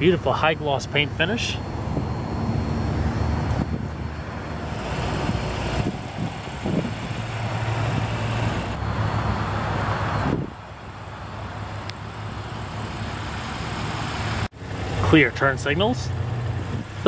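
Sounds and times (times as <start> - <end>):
car engine idling: 0.0 - 8.8, 10.7 - 17.0.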